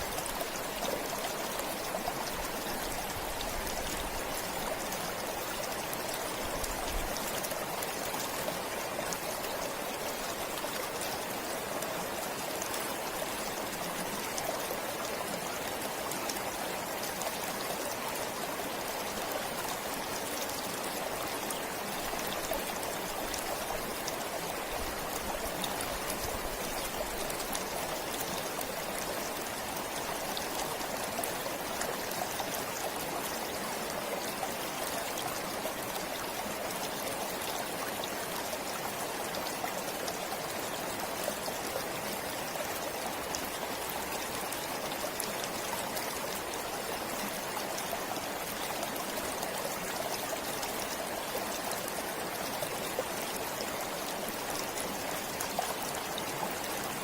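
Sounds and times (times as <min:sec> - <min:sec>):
stream flowing with splashes: 0:00.0 - 0:57.0.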